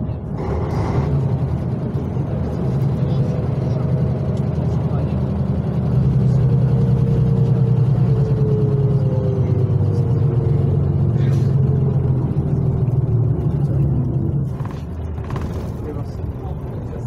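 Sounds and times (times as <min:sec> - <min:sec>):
diesel engine drone: 0:00.0 - 0:17.0.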